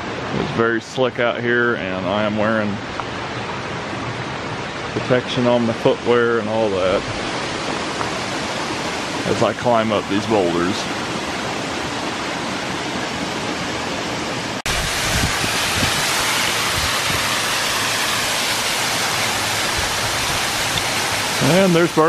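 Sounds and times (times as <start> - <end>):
waterfall splashing on rocks: 2.1 - 13.4, 14.6 - 22.0.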